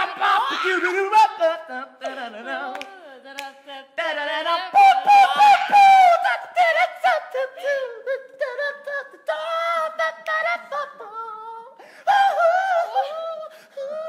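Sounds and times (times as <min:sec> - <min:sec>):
high voice wordless singing: 0:00.0 - 0:14.0.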